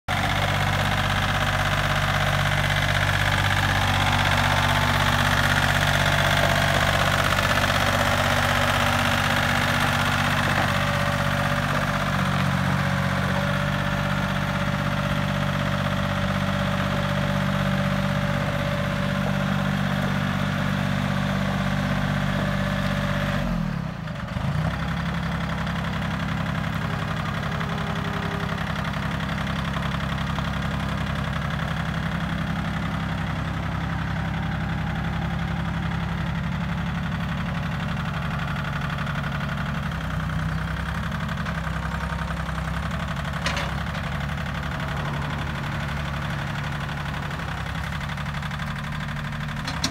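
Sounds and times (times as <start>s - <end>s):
tractor engine running: 0.1s - 49.9s.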